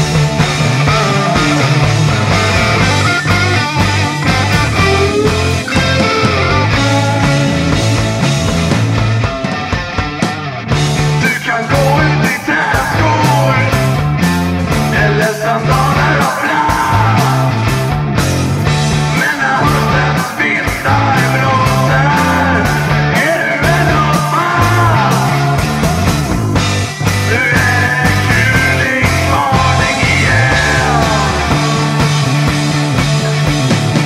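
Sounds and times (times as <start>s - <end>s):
rock music: 0.0s - 34.0s.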